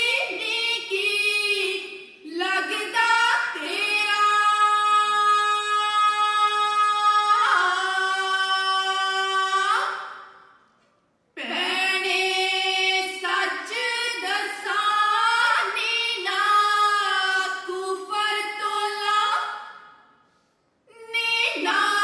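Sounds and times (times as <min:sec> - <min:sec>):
woman singing unaccompanied: 0:00.0 - 0:10.1, 0:11.4 - 0:19.7, 0:20.9 - 0:22.0.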